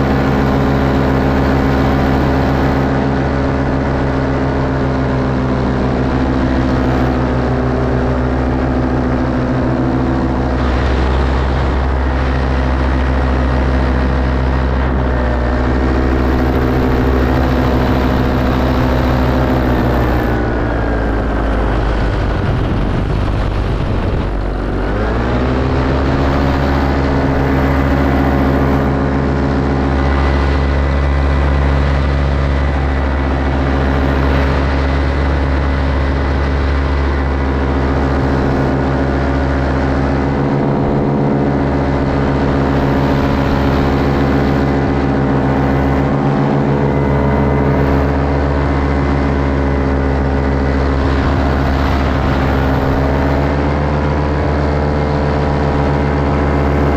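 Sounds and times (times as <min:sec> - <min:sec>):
paramotor engine and propeller: 0:00.0 - 0:56.9.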